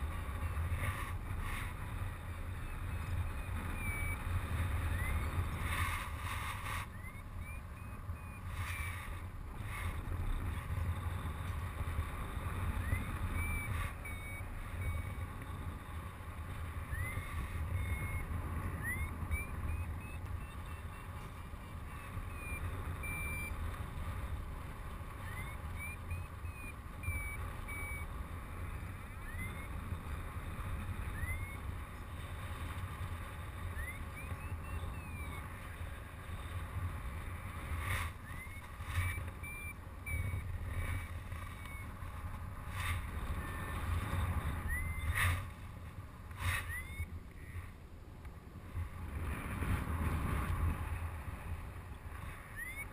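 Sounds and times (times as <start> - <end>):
wind rumble on microphone: 0.0 - 52.9
variometer beeping: 1.5 - 45.6, 46.4 - 47.7, 52.2 - 52.9.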